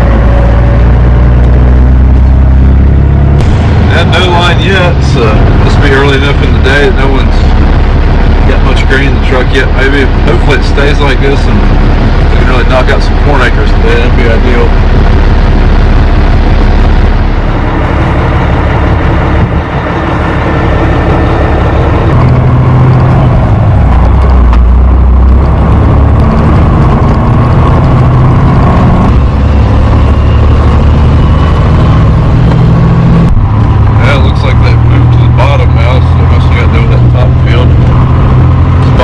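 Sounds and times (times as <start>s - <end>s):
truck diesel engine under load: 0.0s - 39.0s.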